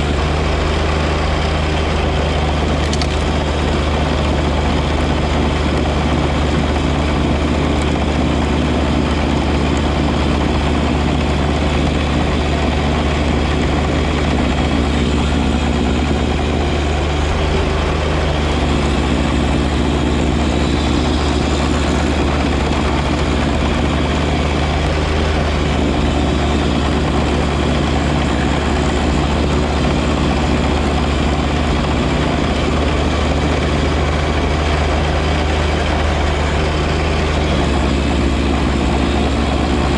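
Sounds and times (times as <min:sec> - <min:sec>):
broad mechanical noise: 0:00.0 - 0:39.9
diesel tractor engine running: 0:00.0 - 0:39.9.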